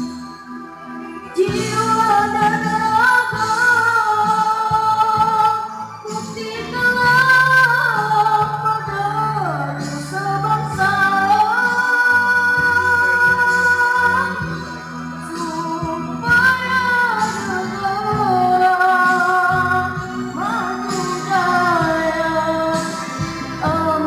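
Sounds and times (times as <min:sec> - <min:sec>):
musical accompaniment: 0:00.0 - 0:24.0
boy singing into a microphone: 0:01.4 - 0:24.0.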